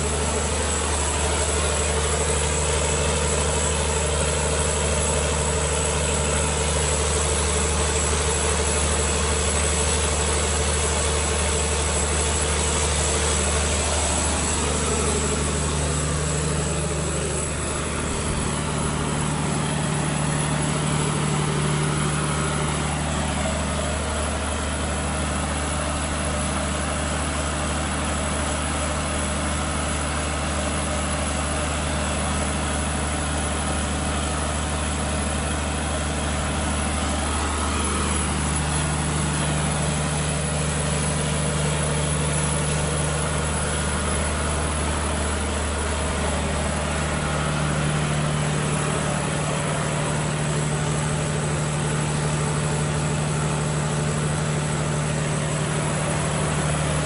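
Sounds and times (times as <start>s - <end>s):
diesel generator running: 0.0s - 57.0s.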